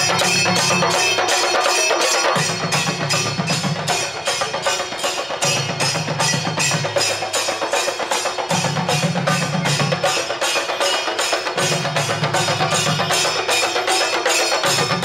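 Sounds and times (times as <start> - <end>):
clashing cymbals: 0.0 - 15.0
drums beaten with sticks: 0.0 - 15.0.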